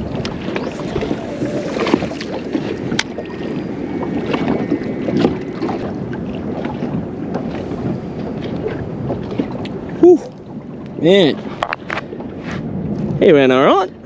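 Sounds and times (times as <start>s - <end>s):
water slapping boat hull: 0.0s - 14.0s
wind buffeting microphone: 0.0s - 14.0s.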